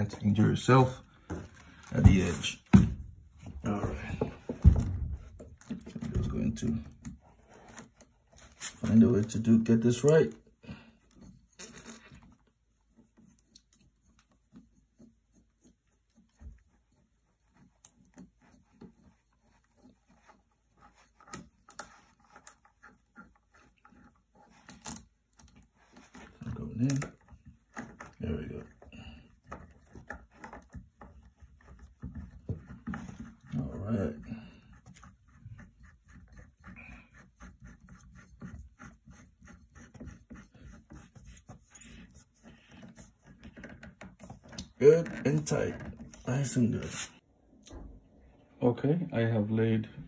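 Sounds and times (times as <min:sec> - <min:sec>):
hands tapping and scraping panel: 0:00.0 - 0:10.2, 0:13.0 - 0:33.6, 0:34.7 - 0:47.1.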